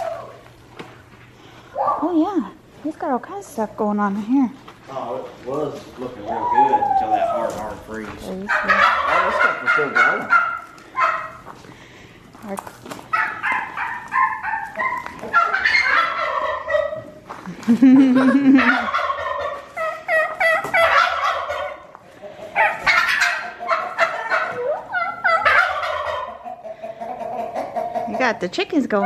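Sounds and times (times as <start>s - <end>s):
turkeys gobbling: 0.0s - 0.7s, 1.7s - 2.1s, 5.3s - 11.7s, 12.8s - 29.0s.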